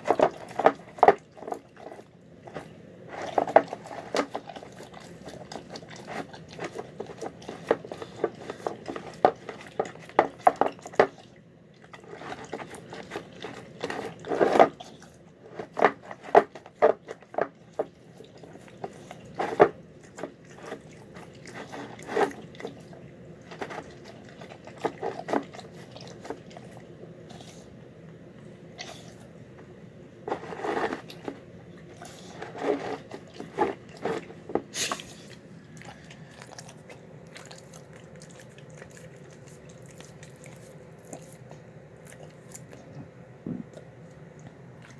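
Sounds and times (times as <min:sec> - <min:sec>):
dog chewing and crunching food: 0:00.0 - 0:44.9.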